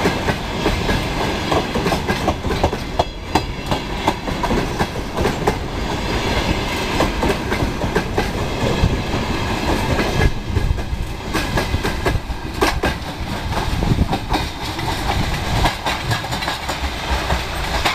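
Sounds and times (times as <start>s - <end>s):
train wheels rumbling: 0.0s - 17.9s.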